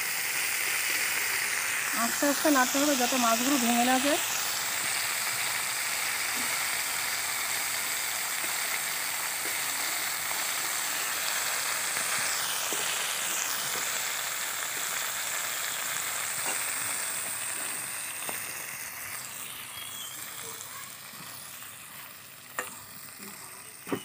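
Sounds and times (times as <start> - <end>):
fish frying in oil: 0.0 - 24.0.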